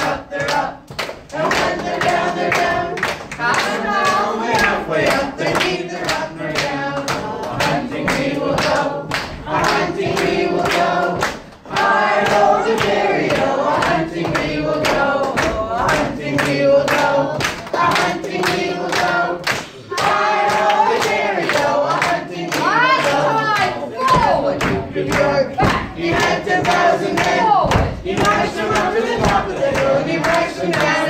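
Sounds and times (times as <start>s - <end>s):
group of voices singing: 0.0s - 31.0s
hands clapping a steady beat: 0.0s - 31.0s.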